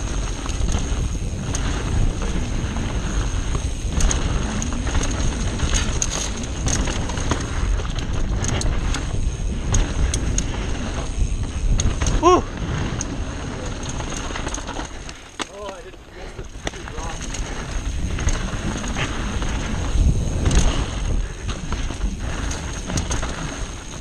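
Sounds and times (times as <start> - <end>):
wind rushing over microphone: 0.0 - 15.1, 15.9 - 24.0
bike clicking and rattling: 0.0 - 24.0
tyres rumbling over dirt trail: 0.0 - 24.0.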